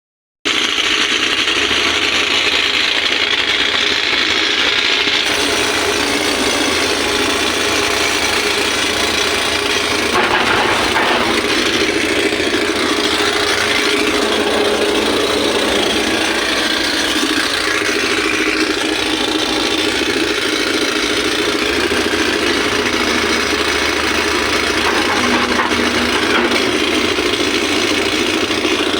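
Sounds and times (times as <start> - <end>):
excavator clattering: 0.8 - 28.9.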